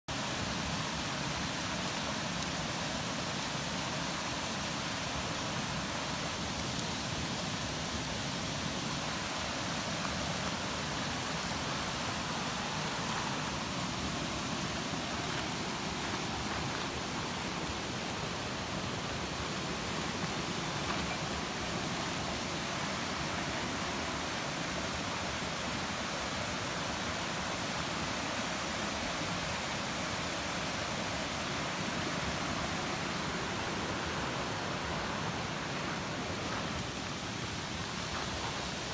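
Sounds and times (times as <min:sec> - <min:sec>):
campfire burning: 0:00.1 - 0:38.9
fire crackles: 0:00.1 - 0:38.9.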